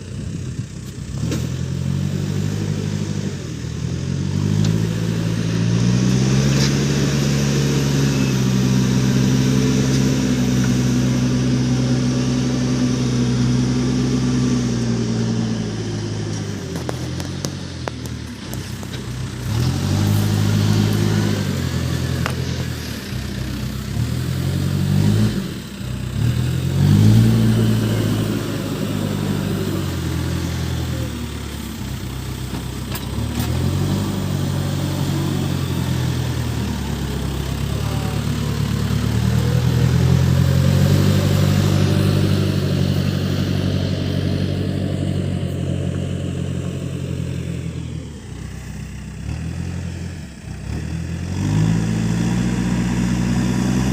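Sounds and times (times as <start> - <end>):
diesel engine revving under load: 0.0 - 53.9.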